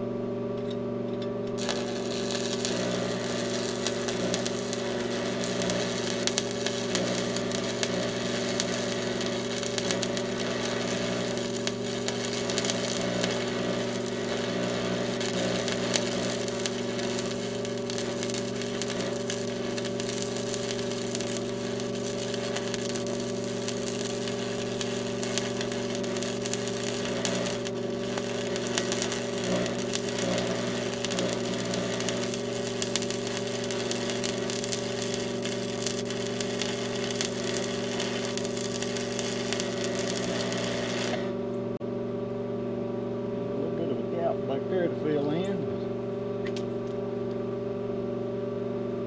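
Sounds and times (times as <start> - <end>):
welder hum: 0.6 - 41.8, 43.4 - 47.4
welding arc crackling: 1.5 - 41.4.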